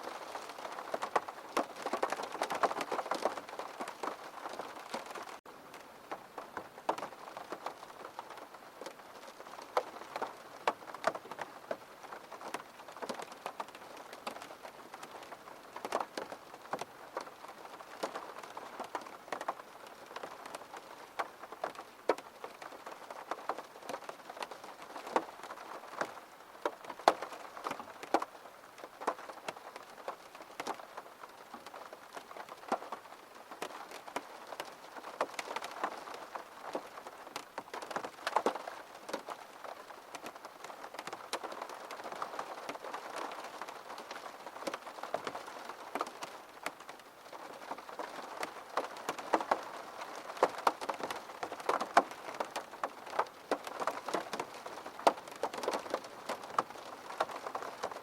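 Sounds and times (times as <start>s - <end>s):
gentle rain drops tapping: 0.0s - 58.0s.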